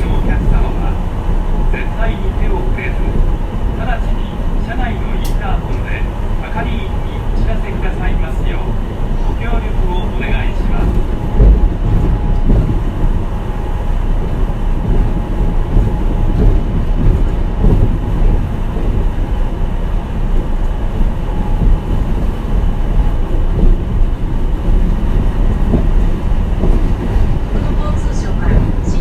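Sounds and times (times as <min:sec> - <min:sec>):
train tyres rumbling: 0:00.0 - 0:29.0.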